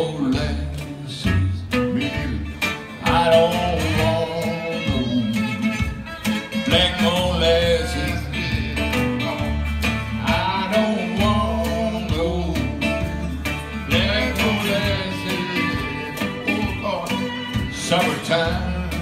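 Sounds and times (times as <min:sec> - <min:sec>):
acoustic guitar strumming blues: 0:00.0 - 0:19.0
bending melody line: 0:01.8 - 0:19.0.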